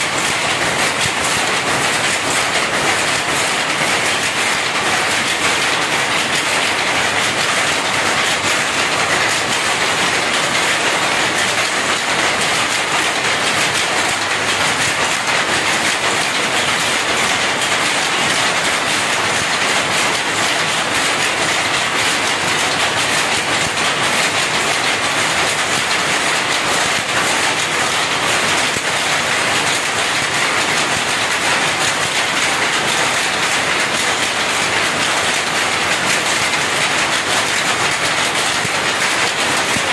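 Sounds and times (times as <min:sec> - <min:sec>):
looms clattering: 0:00.0 - 0:39.9.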